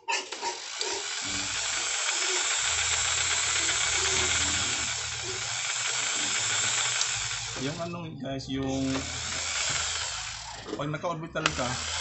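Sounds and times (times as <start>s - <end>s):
jigsaw running: 0.0s - 8.0s, 8.6s - 12.0s.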